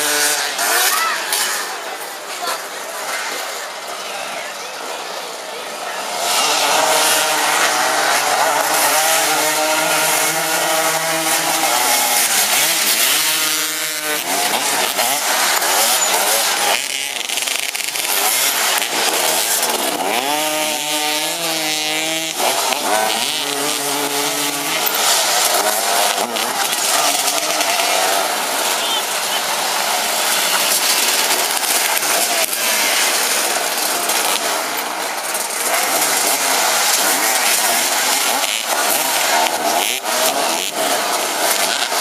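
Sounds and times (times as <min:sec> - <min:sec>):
racing engines at high revs: 0:00.0 - 0:42.0.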